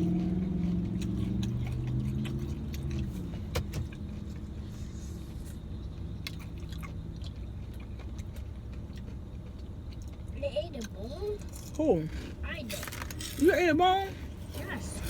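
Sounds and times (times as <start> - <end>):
engine hum: 0.0 - 15.0
road rumble in car: 0.0 - 15.0.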